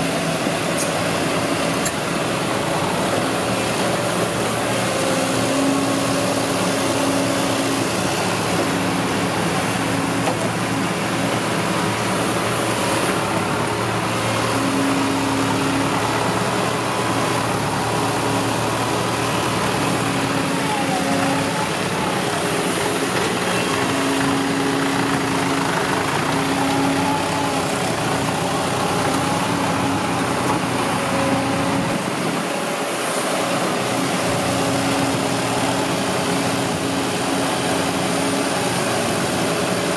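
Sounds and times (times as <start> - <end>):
excavator running: 0.0 - 39.9.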